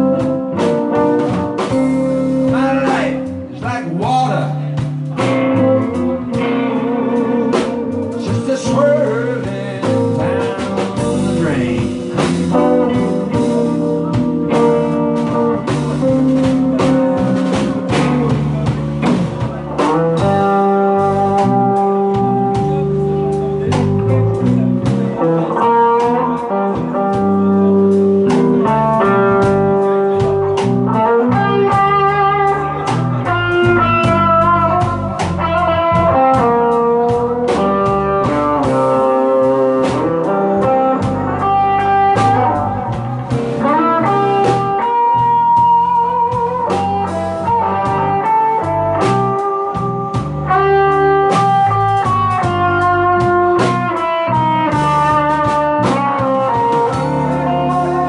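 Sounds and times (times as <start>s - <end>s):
blues band playing: 0.0s - 58.0s
lead guitar lines: 0.0s - 58.0s.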